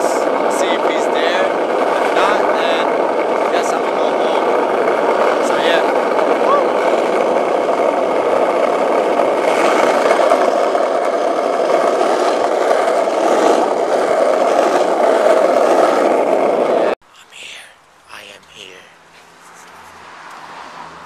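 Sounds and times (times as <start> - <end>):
skateboard wheels rolling on asphalt: 0.0 - 17.0, 19.9 - 21.0.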